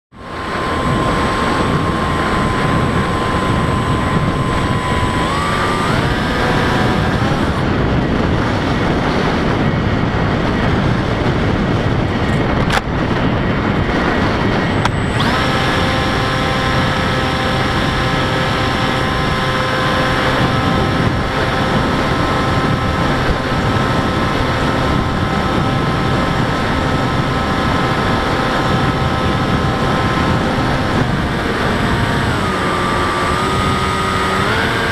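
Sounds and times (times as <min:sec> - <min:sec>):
electric motor and propeller whining: 0:00.1 - 0:34.9
wind rush: 0:00.1 - 0:34.9.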